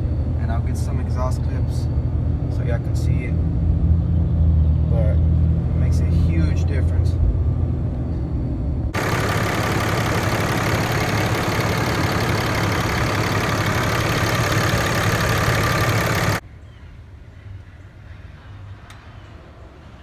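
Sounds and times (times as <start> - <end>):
diesel engine idling: 0.0 - 16.4
low hum: 0.0 - 16.4.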